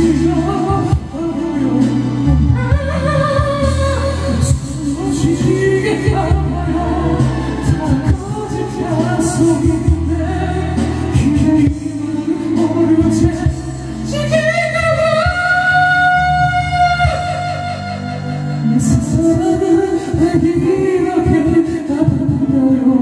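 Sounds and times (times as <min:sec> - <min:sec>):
backing music with steady beat: 0:00.0 - 0:23.0
person singing pop melody: 0:00.0 - 0:23.0.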